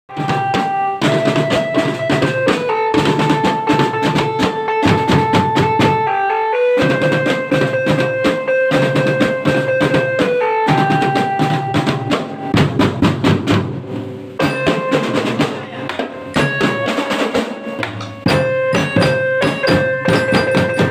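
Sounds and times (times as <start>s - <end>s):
marching band playing: 0.1s - 20.9s.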